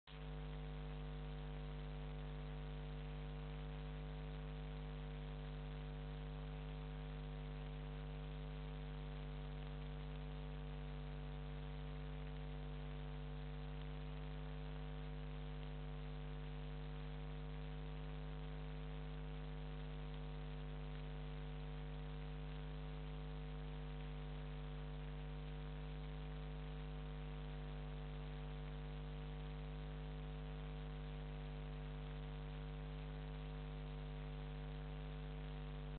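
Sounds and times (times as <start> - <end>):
electrical mains hum: 0.1 - 35.9
faint hiss: 0.2 - 35.9.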